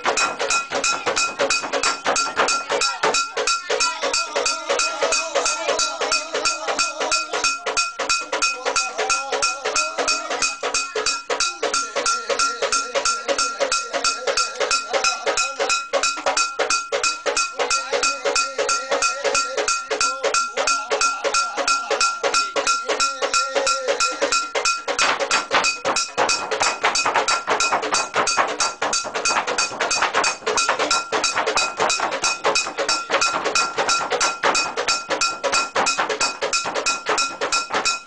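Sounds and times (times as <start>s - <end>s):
fast percussion strikes: 0.0s - 38.0s
metallic ringing tone: 0.0s - 38.0s.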